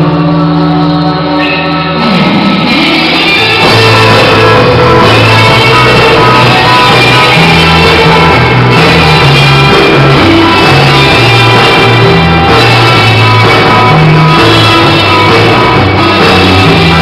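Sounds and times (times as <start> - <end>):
rock band playing: 0.0 - 17.0
stepping bass line: 0.0 - 17.0.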